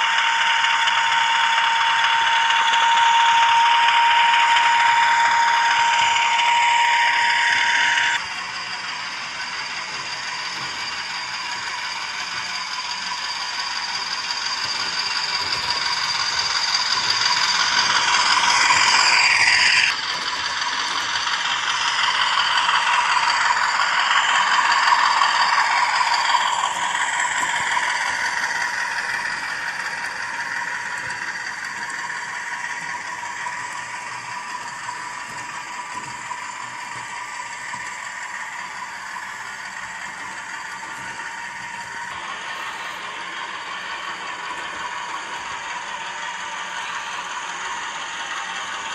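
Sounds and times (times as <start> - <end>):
model train mechanical rattle: 0.0 - 48.9
diesel engine sound through small speaker: 7.0 - 48.9.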